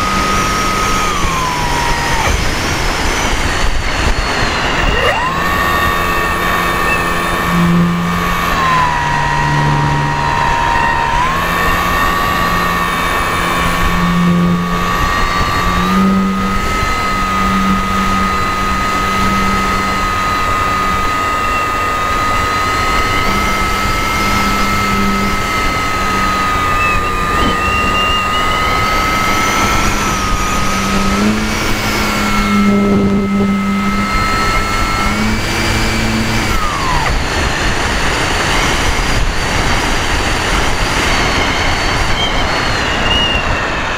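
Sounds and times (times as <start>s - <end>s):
low droning tone: 0.0s - 43.9s
model plane motor whine: 0.0s - 43.9s.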